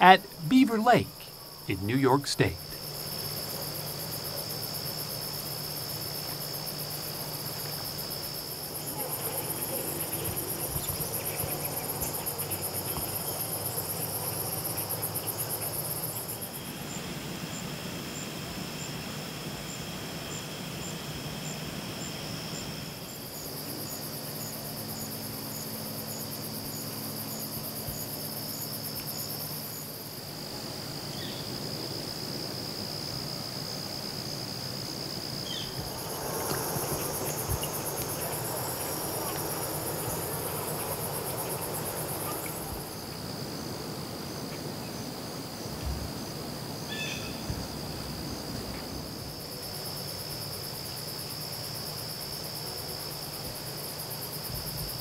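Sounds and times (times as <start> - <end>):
high pulsing insect trill: 0.0 - 55.0
insects trilling: 0.0 - 55.0.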